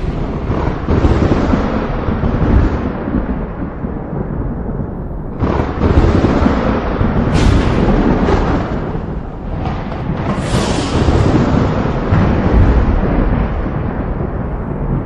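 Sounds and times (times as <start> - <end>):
thunder crack: 0.0 - 15.0
thunder rumbling: 0.0 - 15.0.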